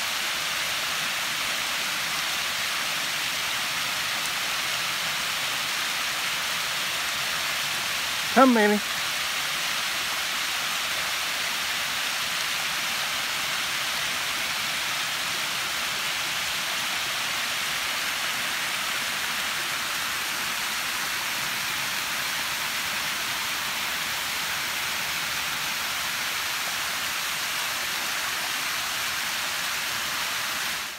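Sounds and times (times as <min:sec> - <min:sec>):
water cascading over rocks: 0:00.0 - 0:30.9.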